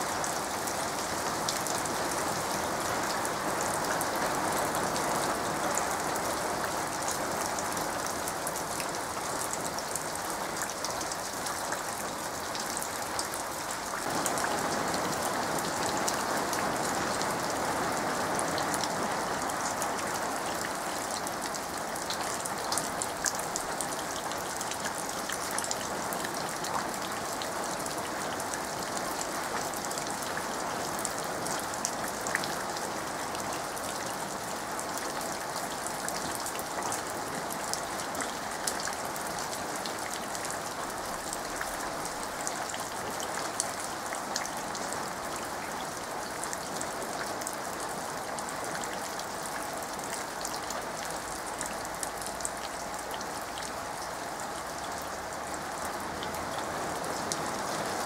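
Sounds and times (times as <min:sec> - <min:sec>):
rain falling into puddle: 0:00.0 - 0:58.0.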